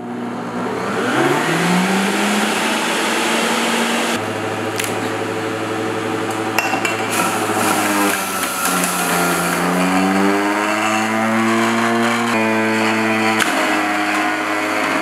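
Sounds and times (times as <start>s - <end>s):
juicer motor whine: 0.0s - 15.0s.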